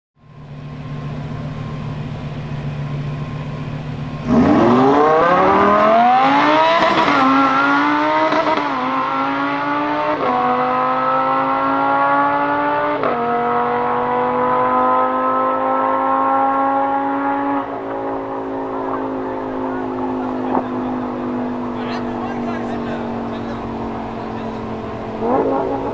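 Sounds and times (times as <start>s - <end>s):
sports car engine accelerating: 0.2s - 25.9s.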